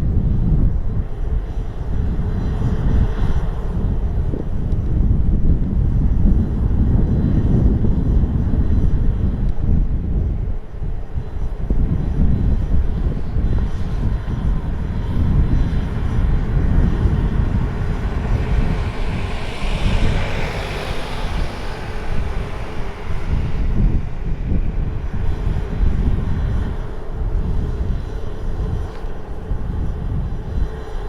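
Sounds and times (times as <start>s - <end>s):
jet aircraft passing: 0.0s - 31.0s
wind buffeting microphone: 0.0s - 31.0s.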